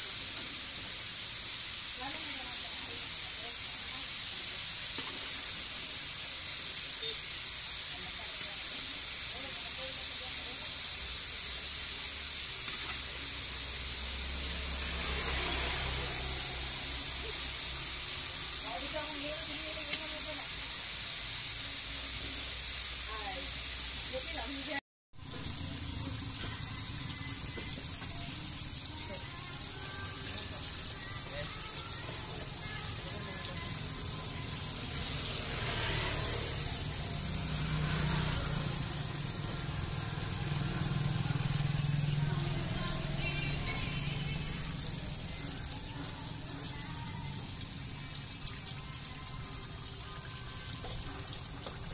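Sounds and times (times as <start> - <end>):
oil sizzling deep-frying: 0.0 - 51.9.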